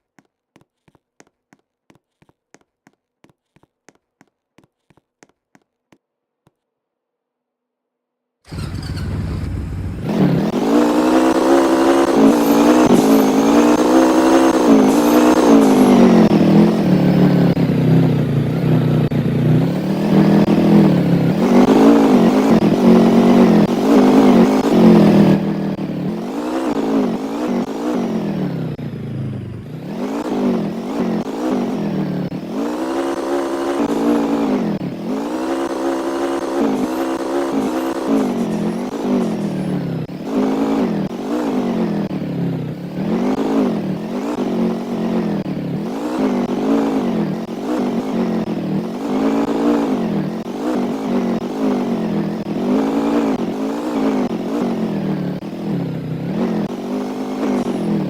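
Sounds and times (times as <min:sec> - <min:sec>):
engine revving: 0:08.5 - 0:58.0.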